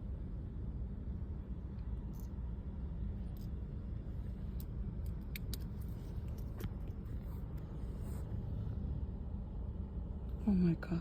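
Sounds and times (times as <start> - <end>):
low rumble inside a car: 0.0 - 11.0.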